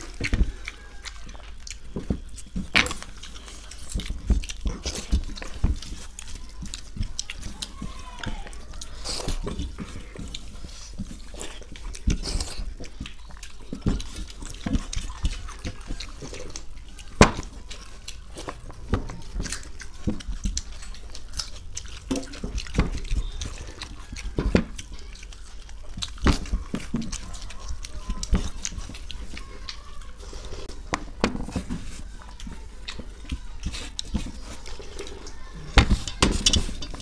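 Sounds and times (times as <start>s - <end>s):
fingers mixing wet rice: 0.0s - 37.0s
mouth eating sounds: 0.0s - 37.0s.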